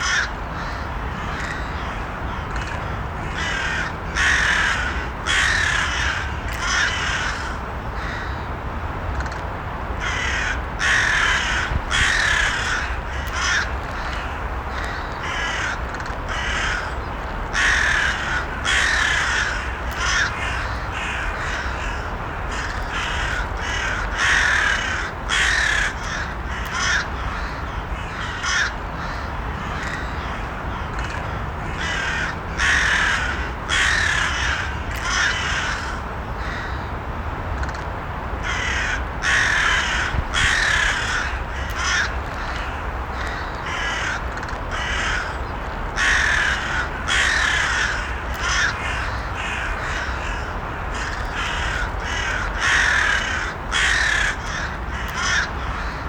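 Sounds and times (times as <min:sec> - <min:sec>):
crows cawing: 0:00.0 - 0:08.5, 0:10.0 - 0:36.9, 0:38.4 - 0:56.0.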